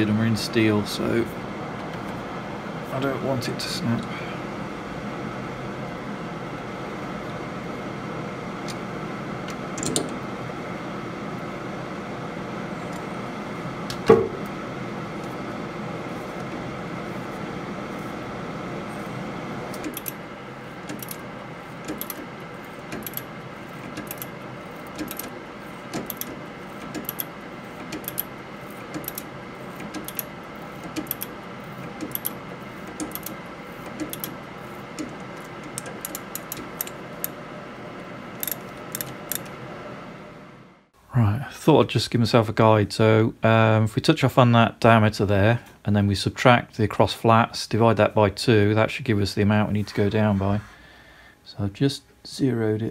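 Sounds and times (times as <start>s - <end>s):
steady hum: 0.0s - 52.9s.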